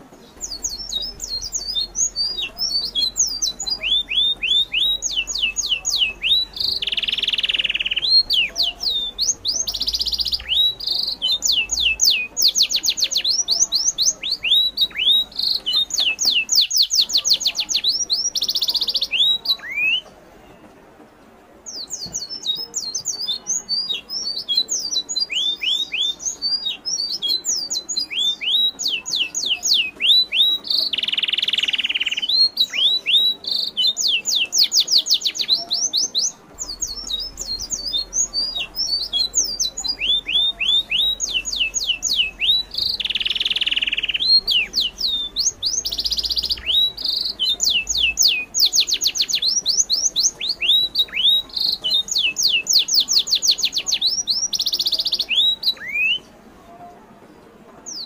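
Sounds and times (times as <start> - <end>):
birds chirping: 0.0 - 20.8, 21.5 - 56.8.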